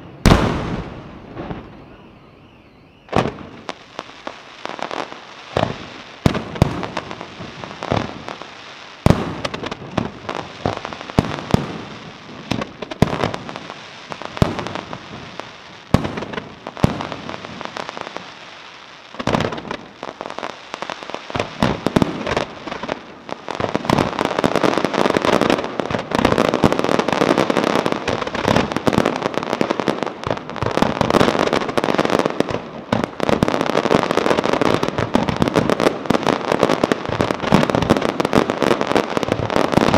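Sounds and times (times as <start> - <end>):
firework shells bursting with bangs: 0.0 - 18.3, 21.3 - 39.9
crackling fireworks: 0.0 - 39.9.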